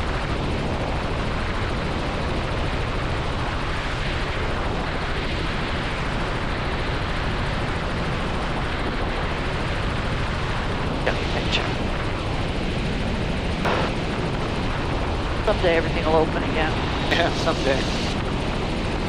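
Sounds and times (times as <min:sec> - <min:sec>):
helicopter engine and rotors: 0:00.0 - 0:19.0.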